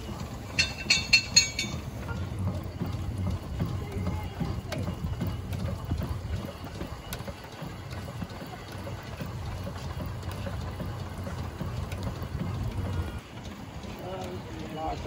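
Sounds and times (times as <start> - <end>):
steam engine pulsing beat: 0.0 - 13.4
faint mechanical clicks: 0.0 - 15.0.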